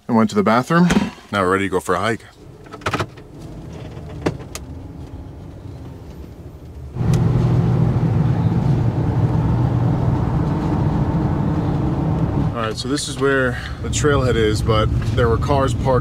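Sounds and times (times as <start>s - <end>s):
engine and tyres humming: 2.2s - 16.0s
engine idling: 2.3s - 15.4s.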